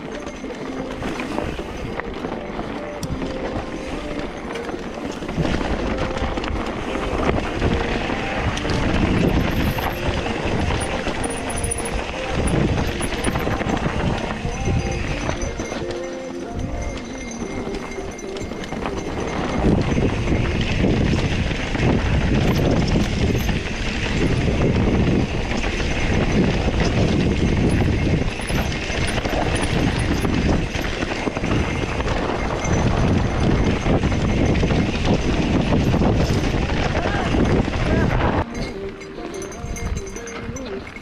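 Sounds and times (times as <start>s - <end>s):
bike rattling and knocking: 0.0s - 41.0s.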